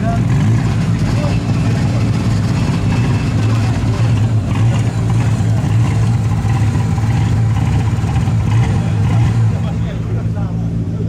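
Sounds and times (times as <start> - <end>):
car engine running at low pitch: 0.0 - 11.0.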